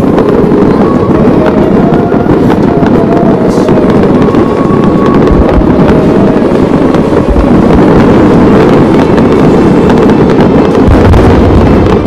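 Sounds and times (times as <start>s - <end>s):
fireworks crackling: 0.0s - 12.0s
fireworks deep booms: 0.0s - 12.0s.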